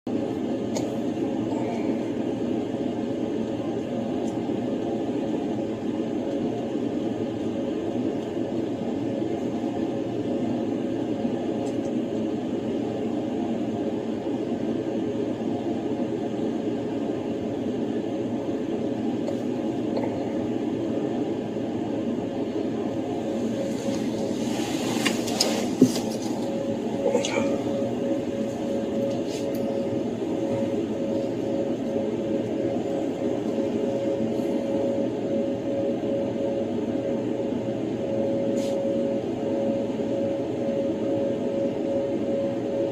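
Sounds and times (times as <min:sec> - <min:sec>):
car engine and ventilation hum: 0:00.1 - 0:42.9.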